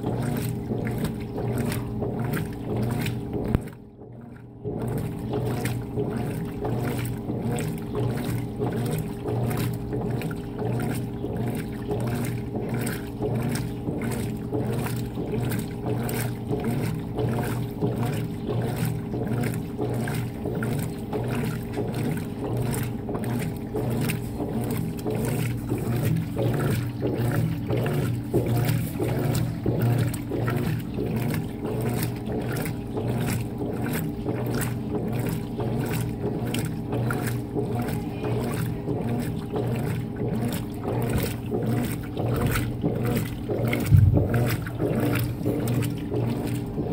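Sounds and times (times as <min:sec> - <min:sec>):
washing machine motor hum: 0:00.0 - 0:46.9
water and laundry sloshing: 0:00.0 - 0:46.9.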